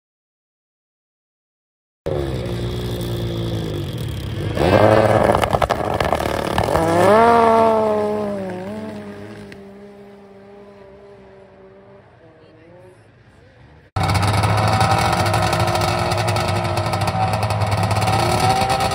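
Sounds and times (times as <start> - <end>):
snowmobile engines revving: 2.1 - 18.9
snowmobile track noise: 2.1 - 18.9.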